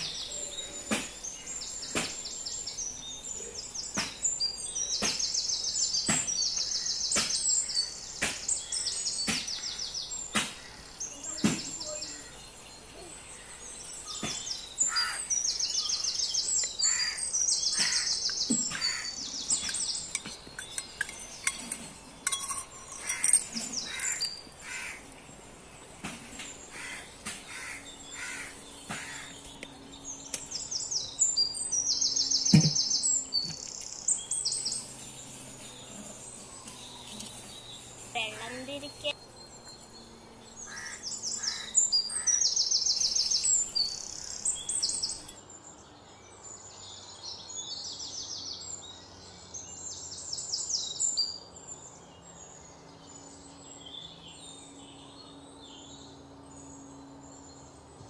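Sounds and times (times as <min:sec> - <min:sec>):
bird singing trills: 0:00.0 - 0:25.2, 0:26.4 - 0:58.0.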